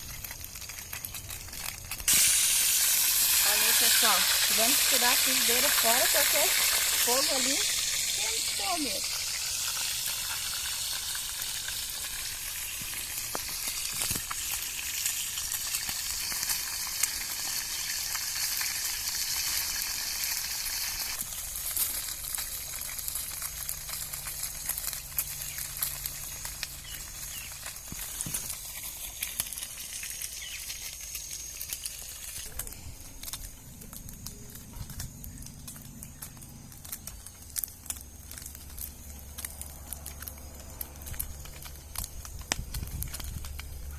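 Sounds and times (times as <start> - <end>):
fish frying in hot oil: 0.0 - 43.9
oil crackling and popping: 0.0 - 43.9.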